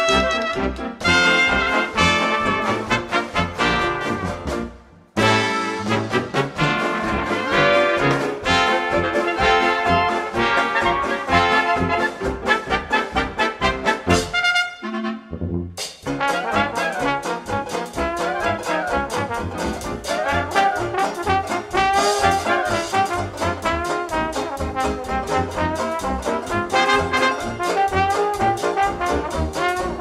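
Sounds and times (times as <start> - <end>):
jazz dance band playing: 0.0 - 30.0.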